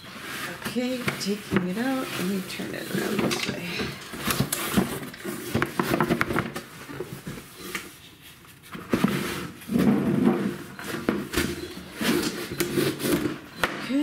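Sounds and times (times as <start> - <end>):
cardboard scraping and rustling: 0.0 - 13.6.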